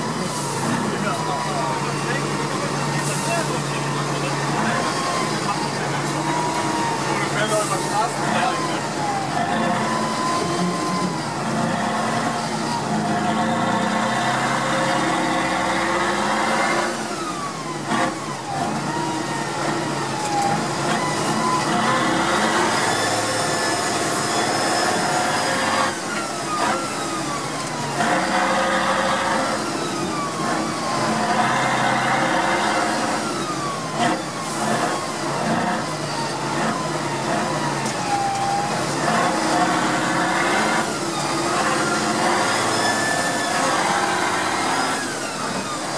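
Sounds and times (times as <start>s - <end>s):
diesel truck engine revving: 0.0s - 45.9s.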